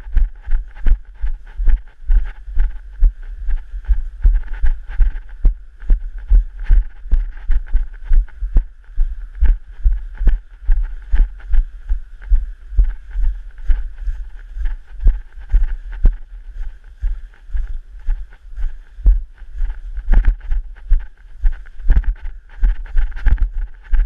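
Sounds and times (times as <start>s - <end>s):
footsteps on grass and snow: 0.0s - 24.0s.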